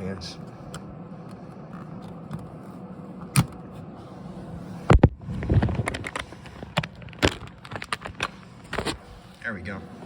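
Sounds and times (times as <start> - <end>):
computer fans humming: 0.0 - 10.0.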